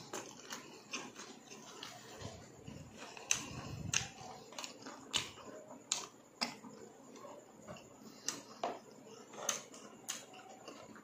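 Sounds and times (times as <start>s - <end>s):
crunchy food being chewed: 0.0s - 11.0s.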